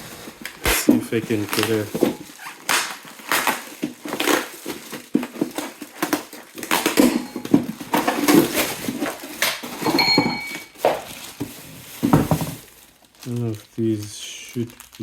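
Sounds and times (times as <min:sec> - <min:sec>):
box packaging rustling and crunching: 0:00.0 - 0:15.0.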